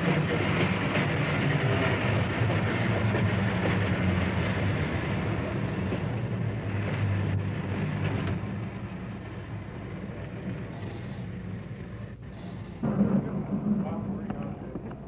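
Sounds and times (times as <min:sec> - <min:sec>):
railcar rumbling on track: 0:00.0 - 0:15.0.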